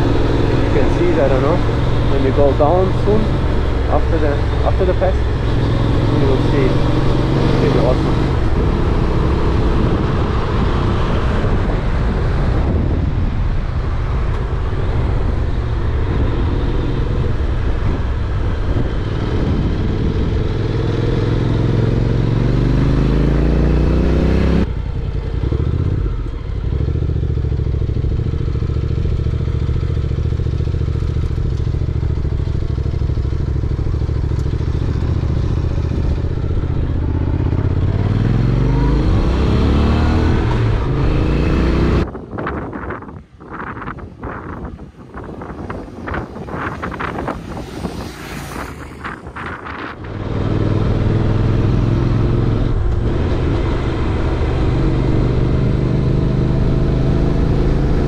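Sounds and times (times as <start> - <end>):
motorcycle engine revving: 0.0 - 13.2, 13.9 - 58.0.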